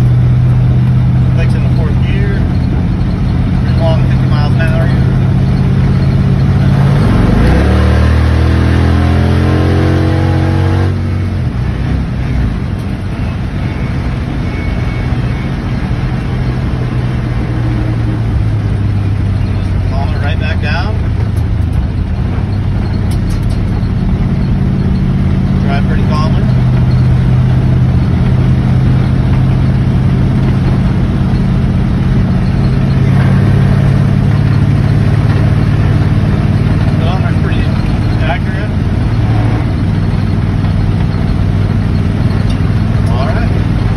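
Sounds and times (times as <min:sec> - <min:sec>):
road noise: 0:00.0 - 0:43.9
truck engine accelerating: 0:00.0 - 0:43.9.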